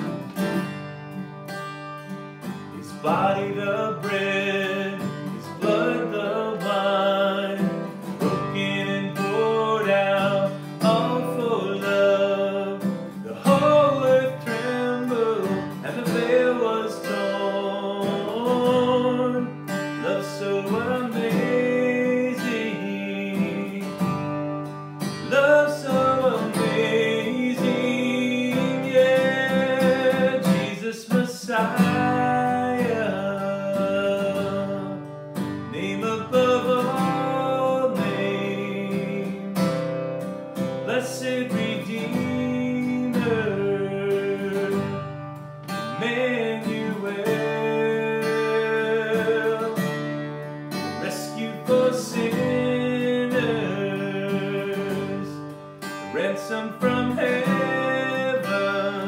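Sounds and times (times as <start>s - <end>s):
acoustic guitar strumming: 0.0s - 59.0s
man singing: 2.6s - 59.0s.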